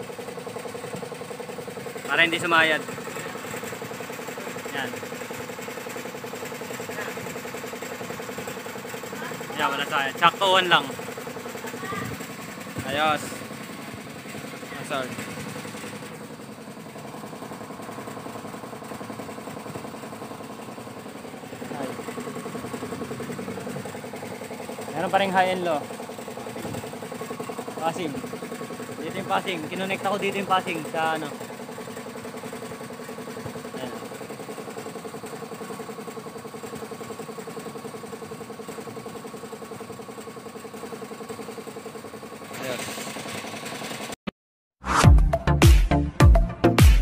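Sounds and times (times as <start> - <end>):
scooter engine idling: 0.0 - 44.2.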